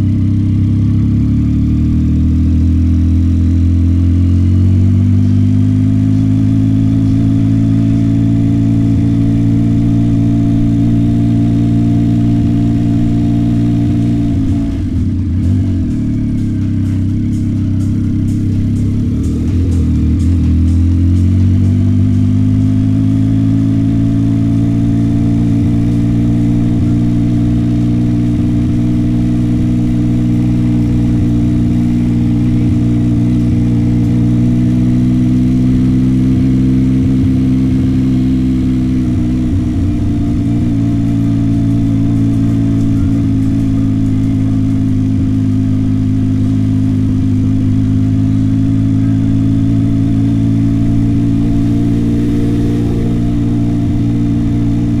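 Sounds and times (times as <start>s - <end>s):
motorcycle engine at low revs: 0.0s - 55.0s.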